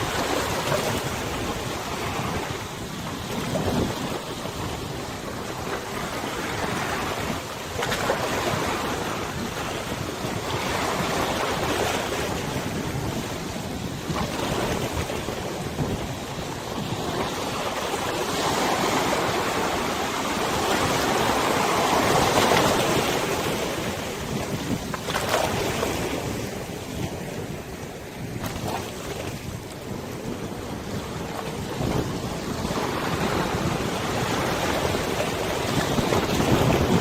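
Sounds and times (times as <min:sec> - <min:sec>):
river waves splashing: 0:00.0 - 0:37.0
wind on microphone: 0:00.0 - 0:37.0.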